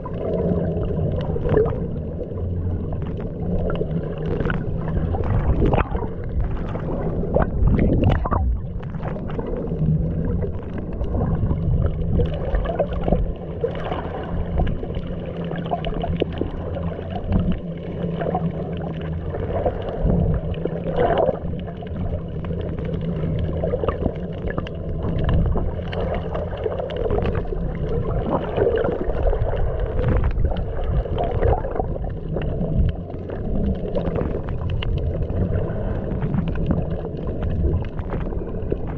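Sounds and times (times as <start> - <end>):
small clicks and bubbling crackles: 0.0 - 38.9
underwater low hum: 0.0 - 38.9.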